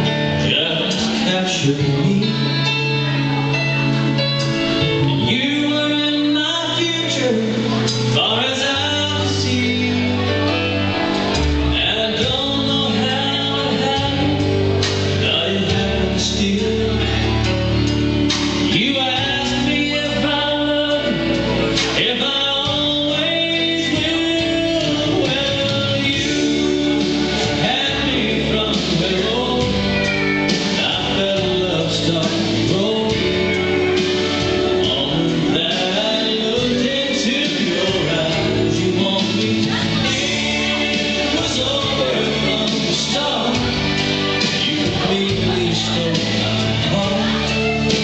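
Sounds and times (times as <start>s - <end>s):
man singing over guitar: 0.0s - 48.0s.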